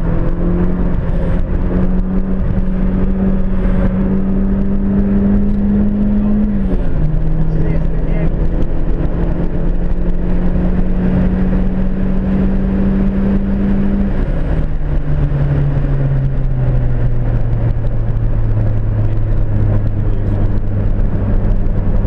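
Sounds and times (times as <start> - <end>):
car engine: 0.0 - 22.0
road noise: 0.0 - 22.0.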